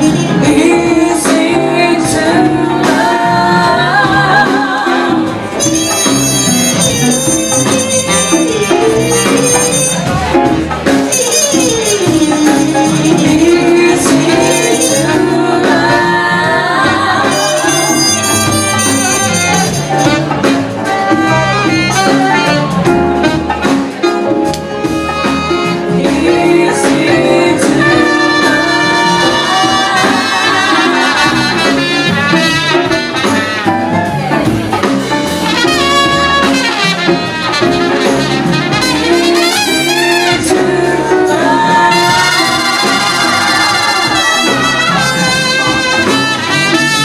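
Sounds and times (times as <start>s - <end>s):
jazz band playing: 0.0s - 47.0s
trumpet melody: 0.0s - 47.0s.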